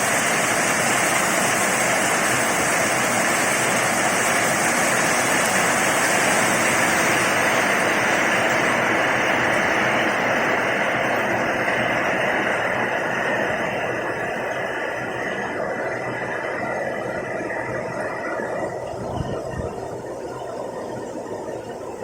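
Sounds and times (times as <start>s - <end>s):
heavy rain falling: 0.0s - 21.6s.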